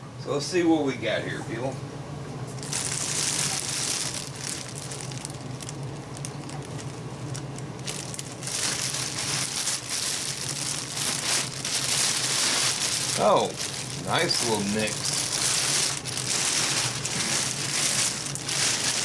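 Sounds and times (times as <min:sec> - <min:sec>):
packaging crinkling: 0:02.5 - 0:19.0.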